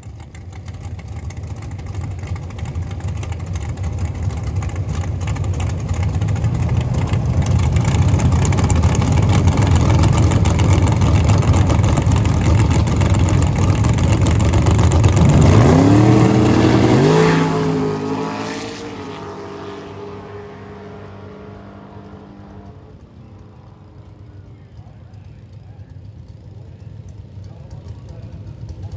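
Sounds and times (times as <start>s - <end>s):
drag race car engines: 0.0s - 28.9s
car accelerating hard: 0.8s - 24.4s.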